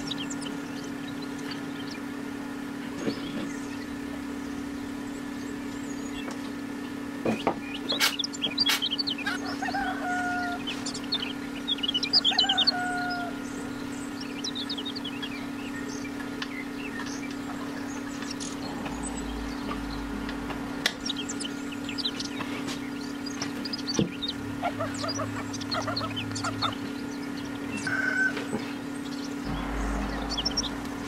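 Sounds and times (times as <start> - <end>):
bird-like calls: 0.0 - 2.3, 3.0 - 31.0
steady low hum: 0.0 - 31.0.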